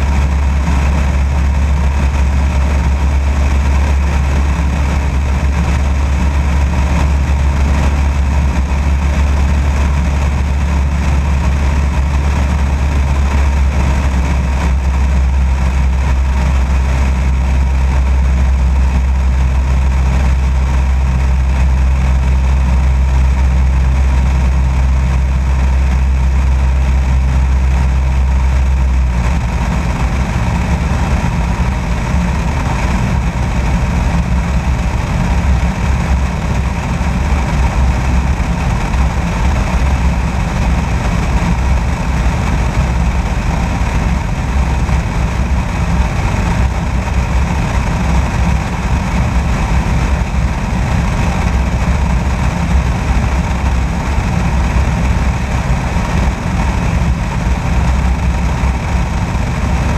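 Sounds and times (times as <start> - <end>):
light aircraft engine drone: 0.0 - 59.9
wind rushing over microphone: 0.0 - 59.9.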